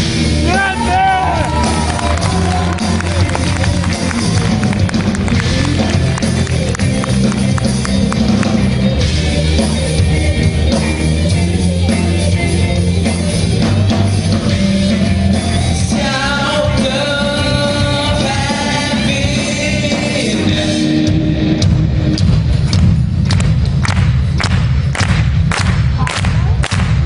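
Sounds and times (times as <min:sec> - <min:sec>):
sustained lead guitar line: 0:00.0 - 0:22.5
live rock band playing: 0:00.0 - 0:26.1.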